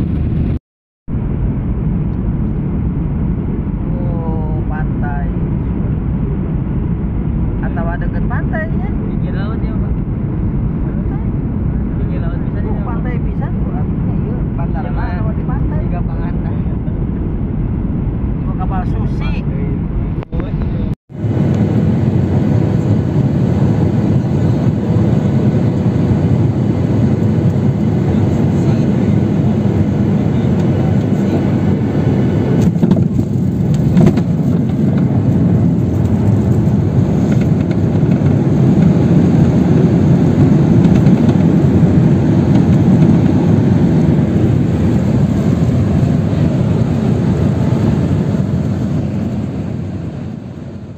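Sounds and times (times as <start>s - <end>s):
jet engines and rushing air in cabin: 0.0s - 50.9s.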